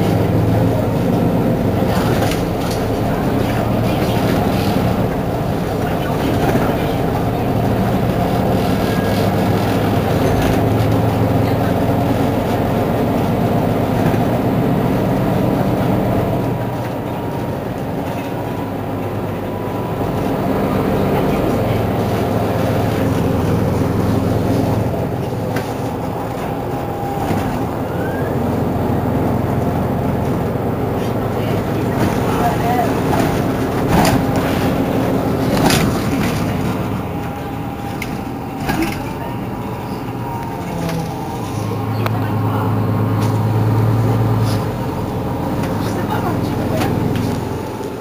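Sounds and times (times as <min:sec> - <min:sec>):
bus engine idling: 0:00.0 - 0:48.0.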